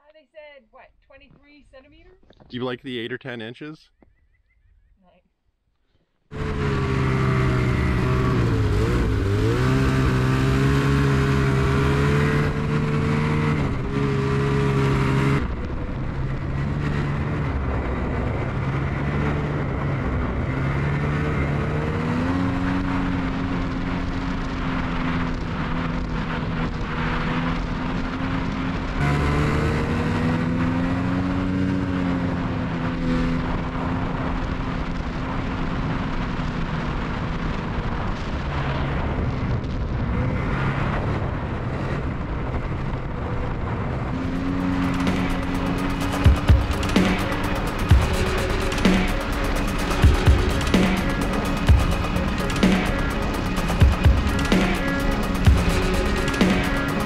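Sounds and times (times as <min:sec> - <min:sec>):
snowmobile engine running: 0:06.3 - 0:57.0.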